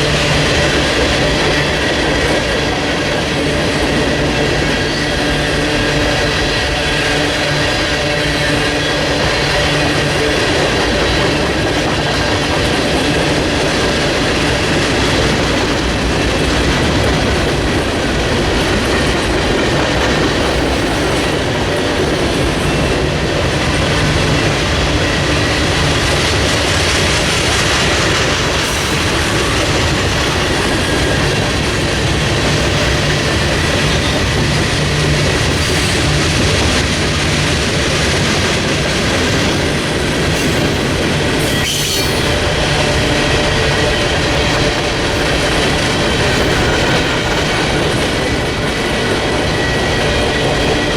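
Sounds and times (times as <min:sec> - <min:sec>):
clickety-clack over rail joints: 0:00.0 - 0:50.9
steel wheels rumbling on rail: 0:00.0 - 0:50.9.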